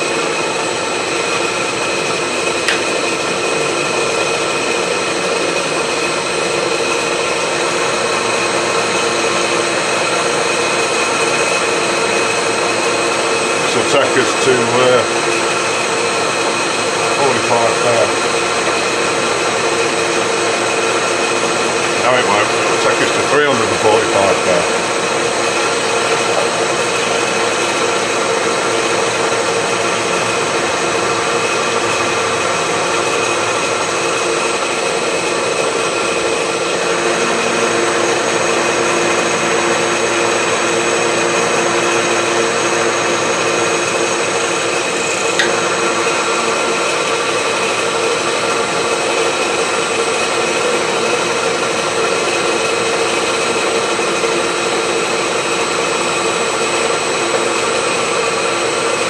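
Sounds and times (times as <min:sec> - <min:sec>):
milling machine cutting steel: 0:00.0 - 0:59.0.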